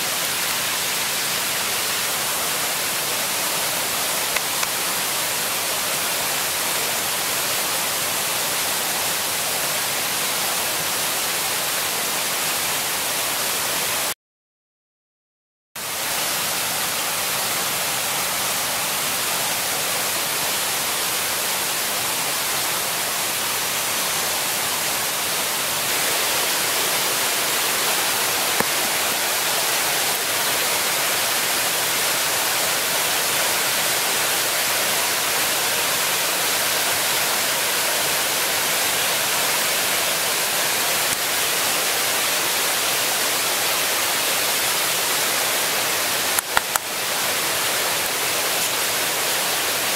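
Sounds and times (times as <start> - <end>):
stream water rushing: 0.0 - 14.1, 15.8 - 49.9.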